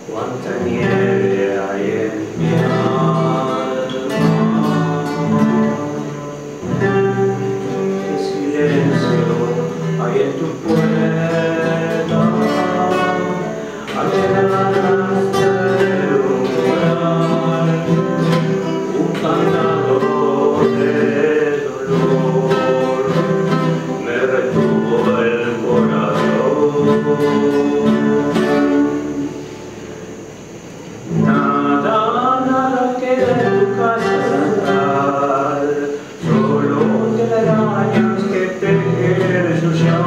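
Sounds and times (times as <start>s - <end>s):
man singing: 0.0s - 29.4s, 31.1s - 40.0s
acoustic guitar chords: 0.0s - 40.0s.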